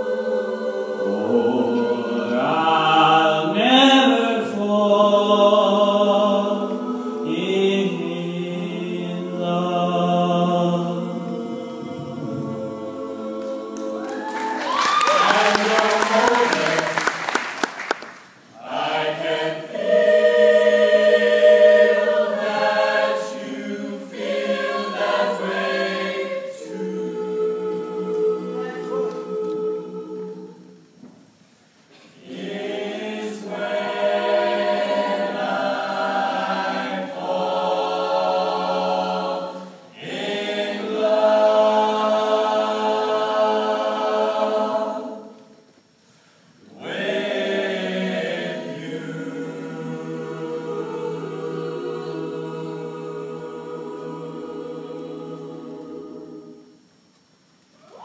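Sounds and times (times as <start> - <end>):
choir singing a cappella: 0.0 - 17.5, 18.5 - 31.1, 31.9 - 57.1.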